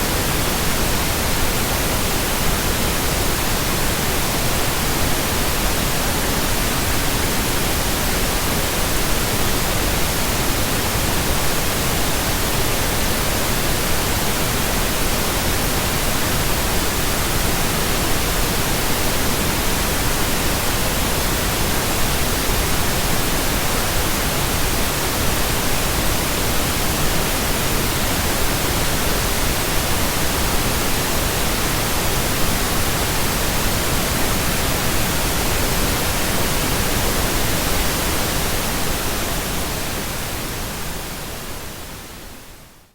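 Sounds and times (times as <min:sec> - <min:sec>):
pink noise hiss: 0:00.0 - 0:42.9.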